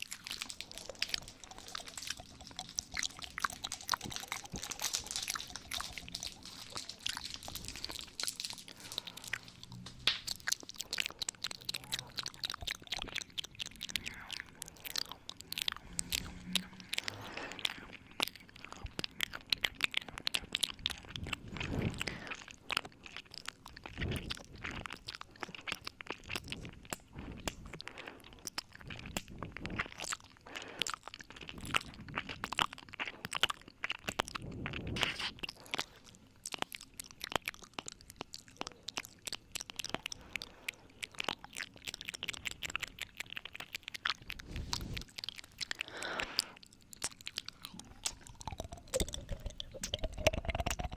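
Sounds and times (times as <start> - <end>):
wet mouth clicks and smacks: 0.0 - 50.9.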